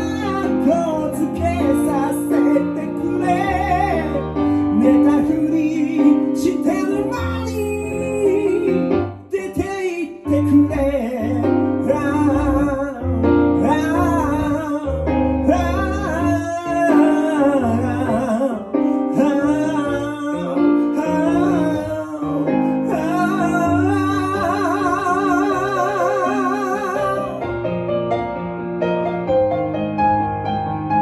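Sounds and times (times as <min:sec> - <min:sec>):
man singing wordless refrain: 0:00.0 - 0:27.6
piano accompaniment: 0:00.0 - 0:31.0.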